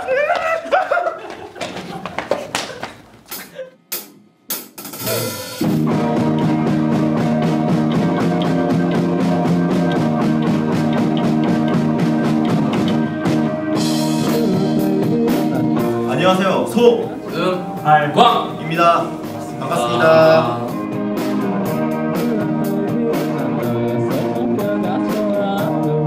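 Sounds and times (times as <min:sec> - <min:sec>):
rock band playing: 0:04.9 - 0:26.0.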